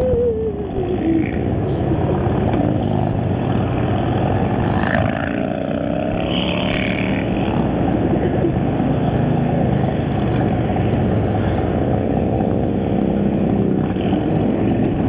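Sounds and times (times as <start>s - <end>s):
motorcycle engines rumbling past: 0.0s - 15.0s.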